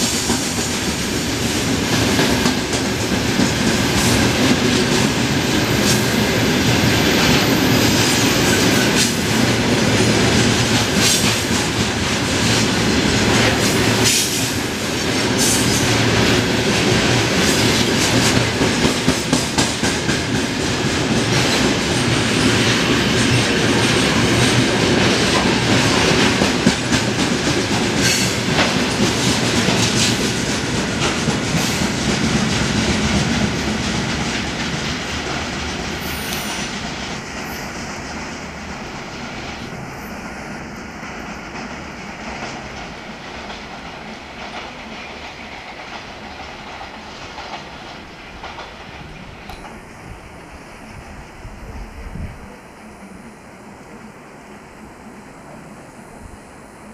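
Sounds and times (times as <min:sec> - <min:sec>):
wheels clickety-clack on rail joints: 0:00.0 - 0:50.1
train wheels rumbling on rails: 0:00.0 - 0:56.9.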